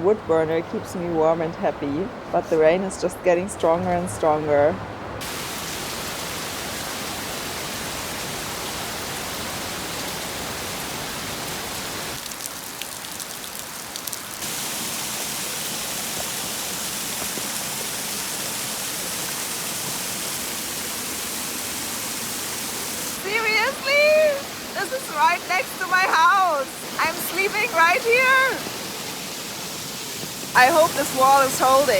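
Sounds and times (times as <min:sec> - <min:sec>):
heavy rain pouring: 0:05.2 - 0:31.9.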